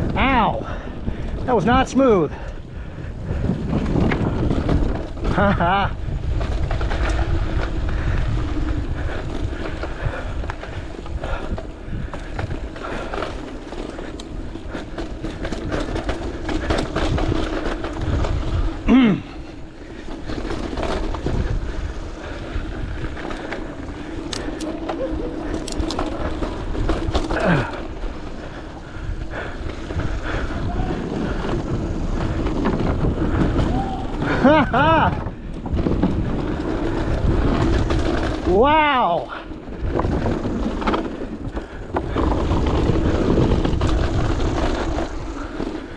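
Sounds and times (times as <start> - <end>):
bike clicks and rattles: 0.0 - 45.9
tyre and wind noise: 0.0 - 45.9.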